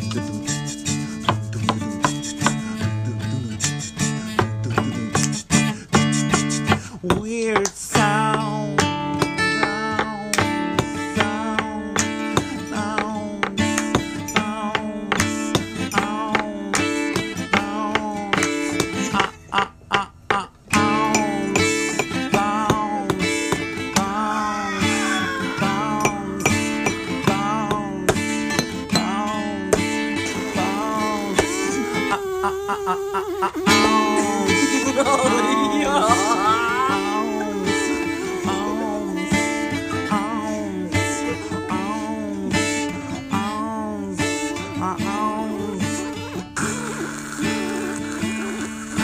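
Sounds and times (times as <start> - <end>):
guitar-led band music: 0.0 - 19.9, 20.6 - 32.5, 33.4 - 49.0.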